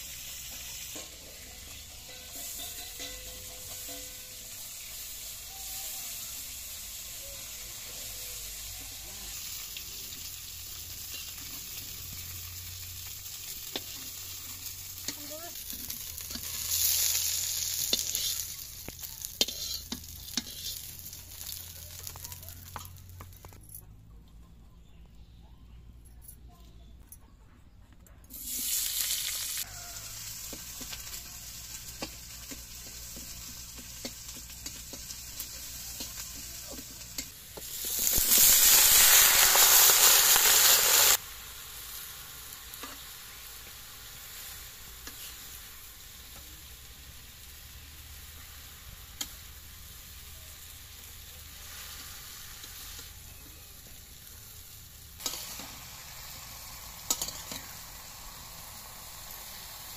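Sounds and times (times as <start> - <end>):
greens sizzling in hot oil: 0.0 - 23.6, 28.3 - 59.9.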